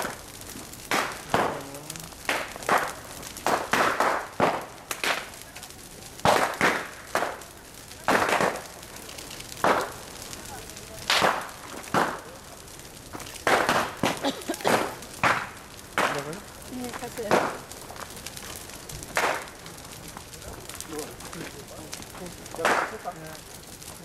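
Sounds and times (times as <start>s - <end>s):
bonfire flames rushing: 0.0s - 24.0s
fire cracking and popping: 0.0s - 24.0s.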